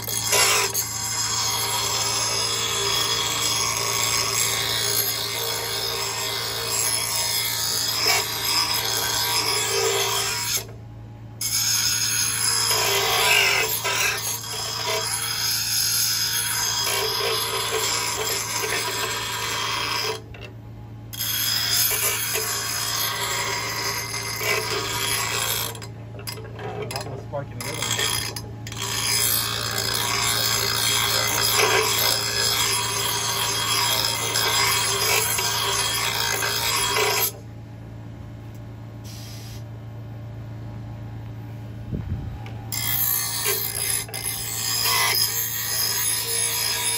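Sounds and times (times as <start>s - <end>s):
grinder wheel grinding metal blade: 0.0s - 10.8s, 11.4s - 20.5s, 21.1s - 37.4s, 42.7s - 46.9s
grinder motor hum: 0.0s - 37.5s, 41.0s - 46.9s.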